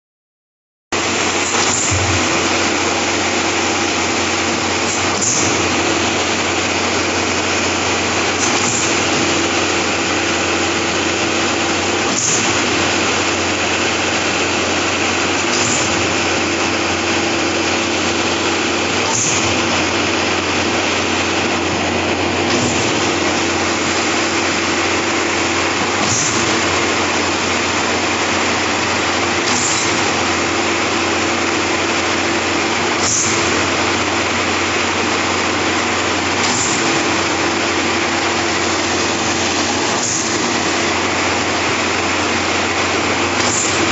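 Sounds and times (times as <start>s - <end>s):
diesel concrete pump running: 0.9s - 43.9s.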